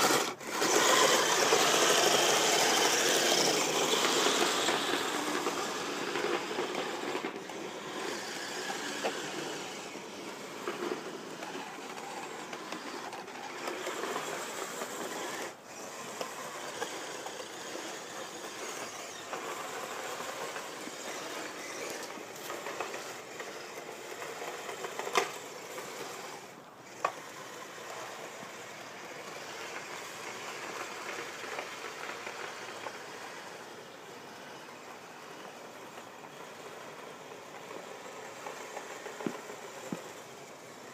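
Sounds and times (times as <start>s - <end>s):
toy snow groomers whirring and clattering: 0.0s - 40.9s.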